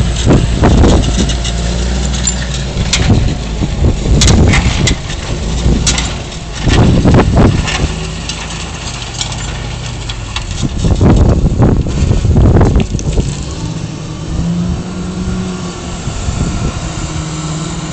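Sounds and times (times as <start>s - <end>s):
tractor diesel engine under load: 0.0s - 17.9s.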